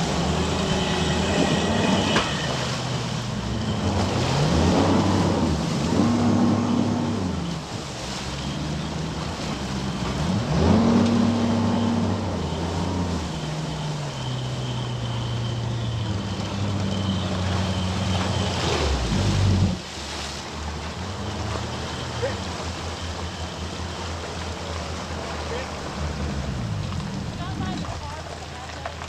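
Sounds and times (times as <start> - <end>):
outboard motor running: 0.0 - 29.0
water noise: 0.0 - 29.0
wind: 0.0 - 29.0.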